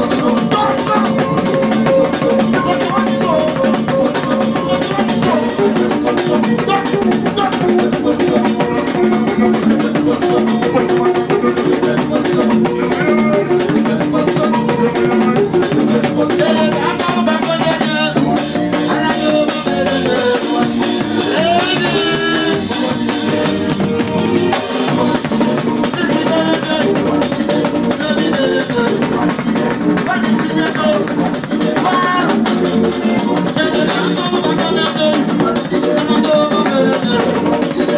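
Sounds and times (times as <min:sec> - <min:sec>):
drum kit: 0:00.0 - 0:37.9
live band music: 0:00.0 - 0:37.9.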